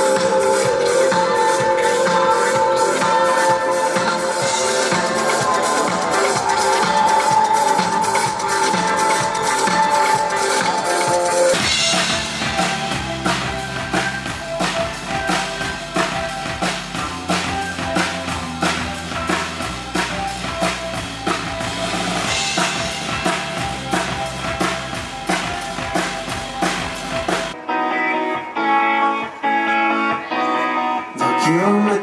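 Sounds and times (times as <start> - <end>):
drum kit beat: 0.0 - 27.6
bass guitar: 0.0 - 32.0
keyboard: 0.0 - 32.0.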